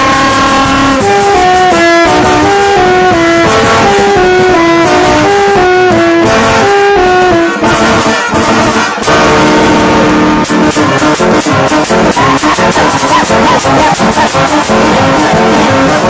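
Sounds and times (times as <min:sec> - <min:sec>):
drums: 0:00.0 - 0:16.0
horns playing repeating riff: 0:00.0 - 0:16.0.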